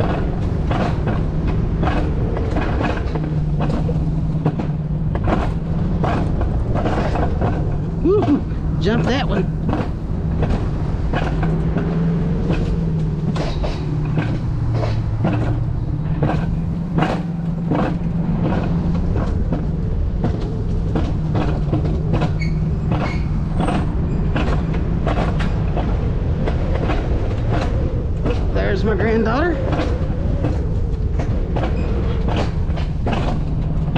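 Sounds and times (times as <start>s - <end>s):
sled wheels rumbling on track: 0.0s - 33.9s.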